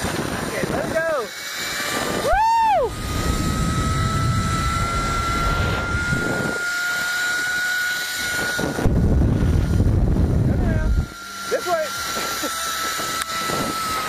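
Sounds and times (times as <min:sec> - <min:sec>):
wind rumble on microphone: 0:00.0 - 0:11.2, 0:11.8 - 0:14.0
zipline pulley whine: 0:00.0 - 0:14.0.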